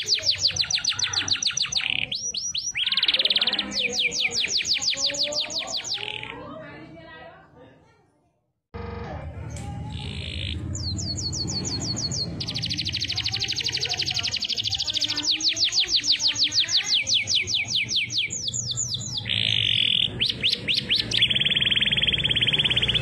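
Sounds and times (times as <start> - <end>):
canary singing: 0.0 - 6.6, 9.5 - 23.0.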